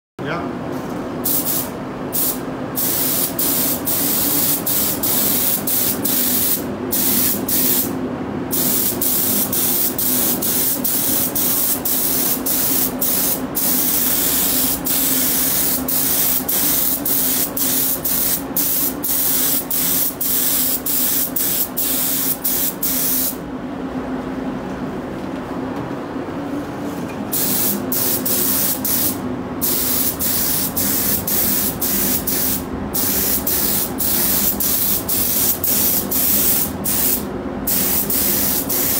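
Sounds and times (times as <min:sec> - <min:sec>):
steady low hum: 0:00.2 - 0:38.9
paint spray gun hissing: 0:01.3 - 0:07.9, 0:08.5 - 0:23.4, 0:27.4 - 0:38.9.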